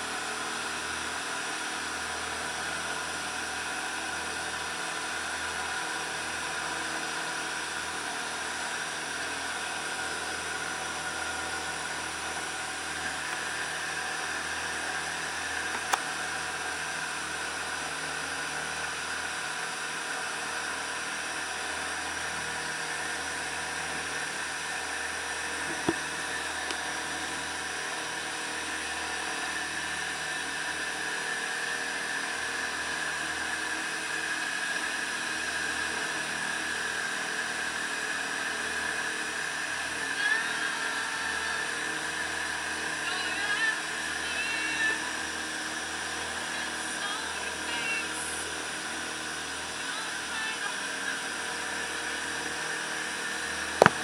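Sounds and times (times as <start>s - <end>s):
boat engine droning with whine: 0.0s - 54.0s.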